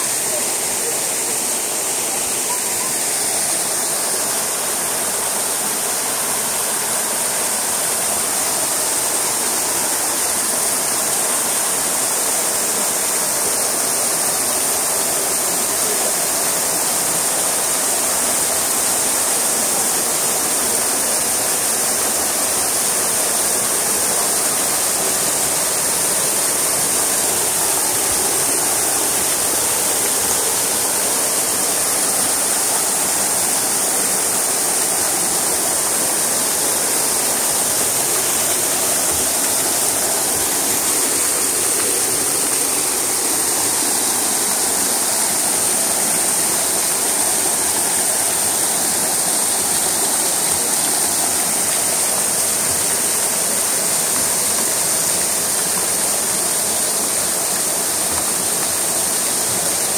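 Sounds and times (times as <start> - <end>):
waterfall splashing on rock: 0.0 - 59.9.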